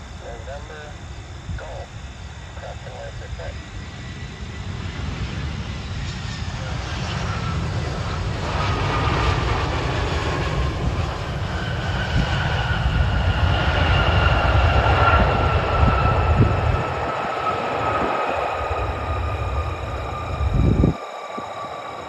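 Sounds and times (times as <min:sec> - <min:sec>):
jet engines passing: 0:00.0 - 0:22.0.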